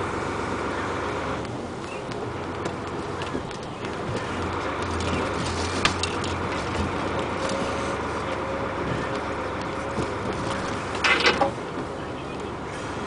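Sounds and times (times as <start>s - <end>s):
truck driving on gravel: 0.0s - 13.0s.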